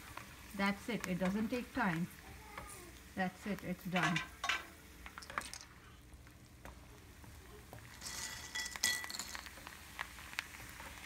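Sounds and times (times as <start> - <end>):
chips sizzling in hot oil: 0.0 - 11.0
oil sizzling: 0.0 - 11.0.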